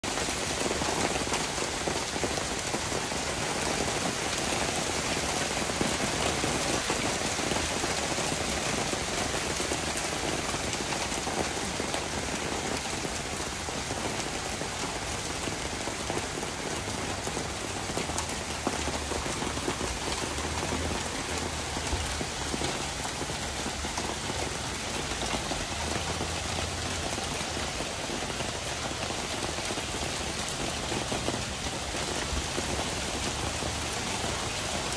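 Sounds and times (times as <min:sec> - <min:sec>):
hailstones falling on turf and paving: 0:00.0 - 0:34.9.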